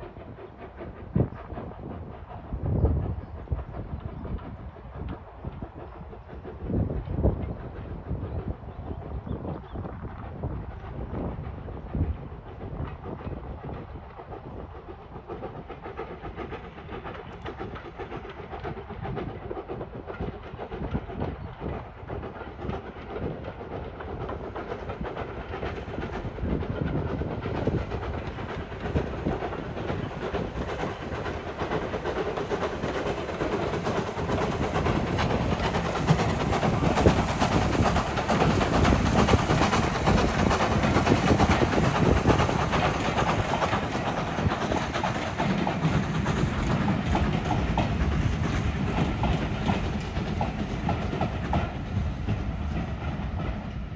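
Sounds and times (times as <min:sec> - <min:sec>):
train approaching: 0:00.0 - 0:53.9.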